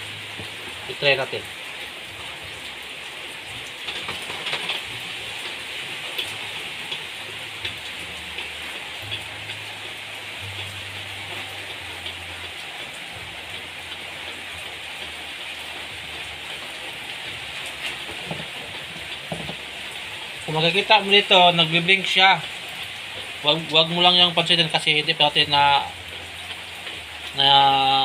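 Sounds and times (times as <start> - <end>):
rain hissing: 0.0 - 28.0.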